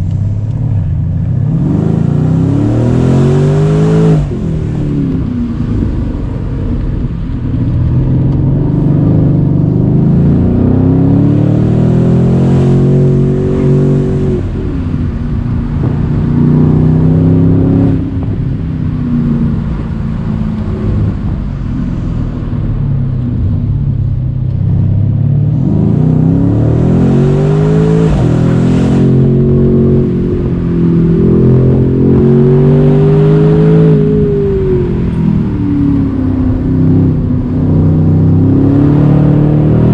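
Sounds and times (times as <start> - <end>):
car engine accelerating through gears: 0.0 - 39.9
wind noise: 0.0 - 39.9.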